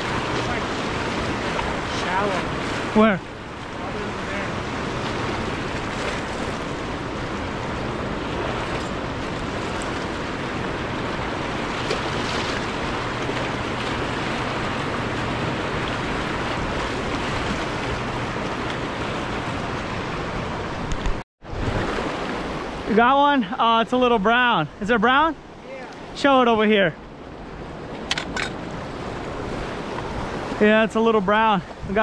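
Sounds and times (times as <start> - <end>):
fast-flowing river rushing: 0.0 - 32.0.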